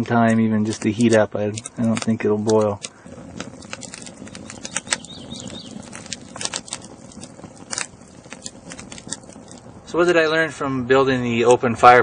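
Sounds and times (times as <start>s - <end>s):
sharp pops: 0.0s - 10.3s
hiss of flame: 0.0s - 11.5s
wood fire crackling: 0.0s - 12.0s.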